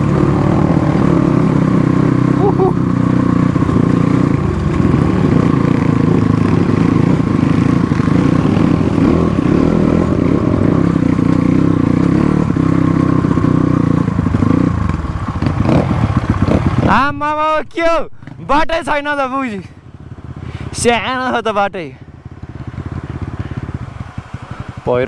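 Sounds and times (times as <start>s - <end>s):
motorcycle engine running: 0.0s - 17.2s, 18.2s - 25.0s.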